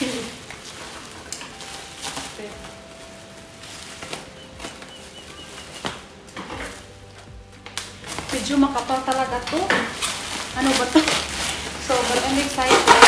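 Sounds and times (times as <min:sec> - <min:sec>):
bubble wrap rustling and crackling: 0:00.0 - 0:13.0.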